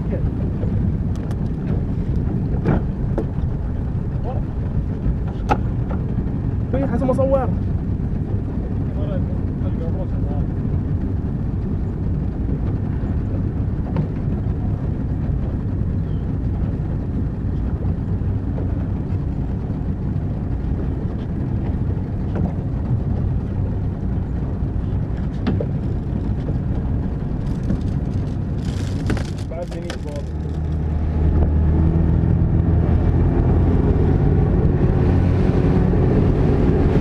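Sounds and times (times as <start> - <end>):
motorboat engine drone: 0.0 - 37.0
wind and water rush: 0.0 - 37.0.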